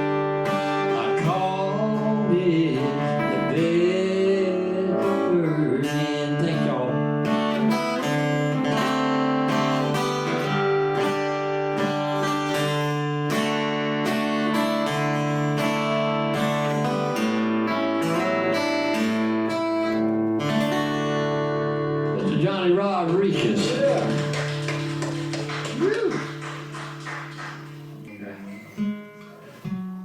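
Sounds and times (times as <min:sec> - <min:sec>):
acoustic guitar strummed chords: 0:00.0 - 0:30.0
bending guitar melody: 0:00.0 - 0:30.0.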